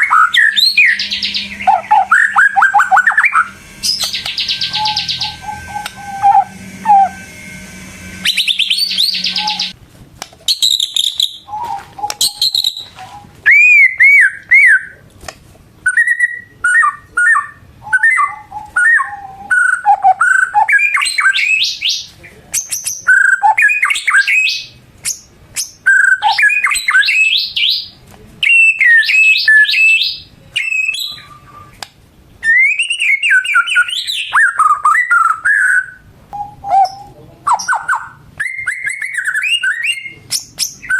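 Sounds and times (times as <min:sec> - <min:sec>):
songbird whistling and chattering: 0:00.0 - 0:07.2, 0:08.2 - 0:09.8, 0:10.5 - 0:15.0, 0:15.9 - 0:31.8, 0:32.4 - 0:40.9.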